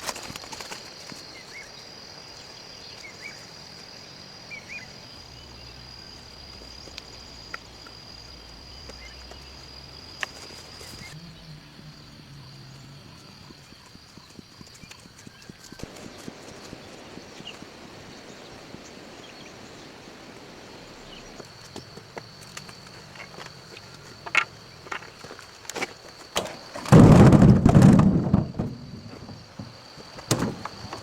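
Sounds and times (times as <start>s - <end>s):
insect high-pitched drone: 0.1s - 26.8s.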